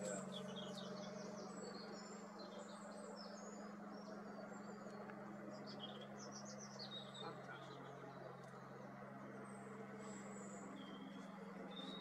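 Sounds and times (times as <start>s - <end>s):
small birds chirping: 0.0s - 8.7s, 9.4s - 12.0s.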